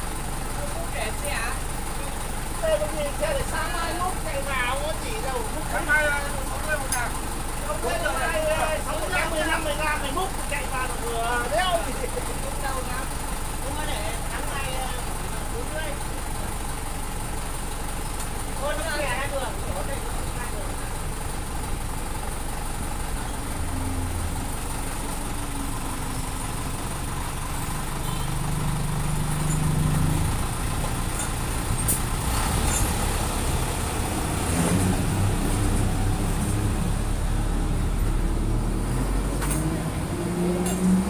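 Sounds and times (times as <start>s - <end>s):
vehicles passing: 0.0s - 41.0s.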